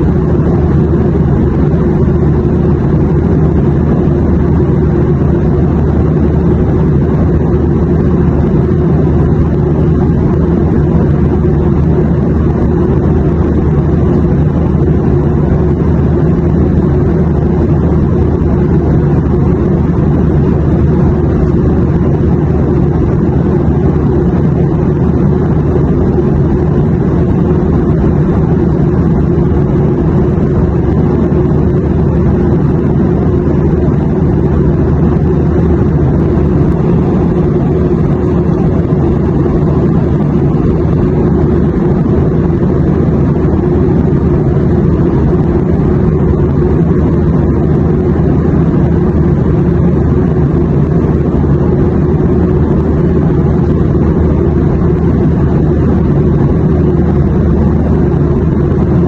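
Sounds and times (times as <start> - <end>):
airplane deep rumble: 0.0 - 59.0.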